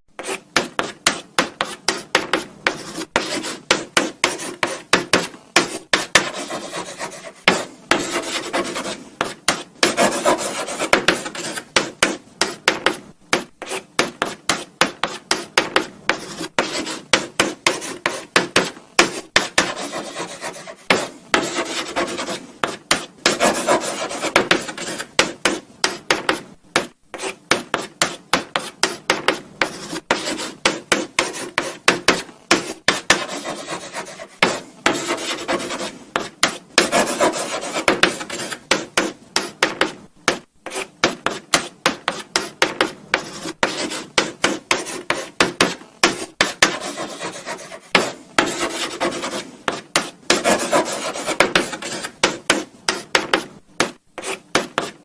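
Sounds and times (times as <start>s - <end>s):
chalk writing on blackboard: 0.1s - 55.0s.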